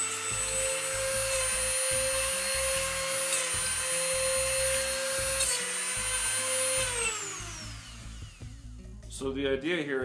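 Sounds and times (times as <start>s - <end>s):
grinding stone rasping on metal: 0.0s - 8.2s
rotary tool high whine: 0.0s - 8.6s.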